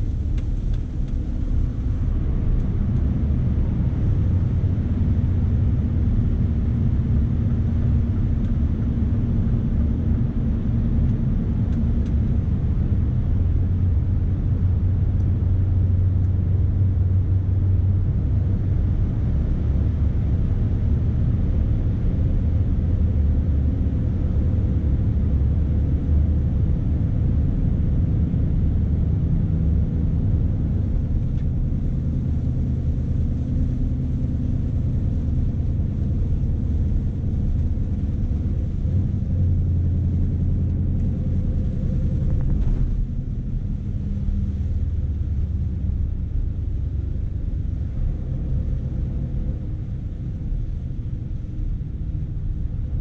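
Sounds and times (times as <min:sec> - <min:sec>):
diesel truck engine droning: 0:00.0 - 0:53.0
road noise: 0:00.0 - 0:53.0.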